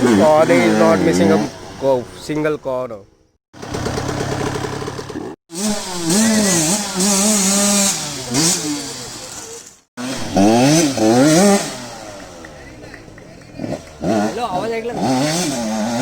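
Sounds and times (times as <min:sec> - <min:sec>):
dirt bike engine revving: 0:00.0 - 0:02.6, 0:03.6 - 0:16.0.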